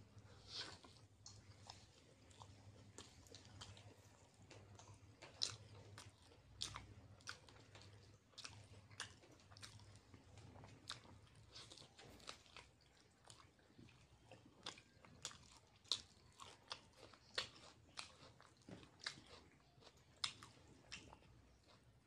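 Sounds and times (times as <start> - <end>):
wet chewing sounds: 0.1 - 22.0.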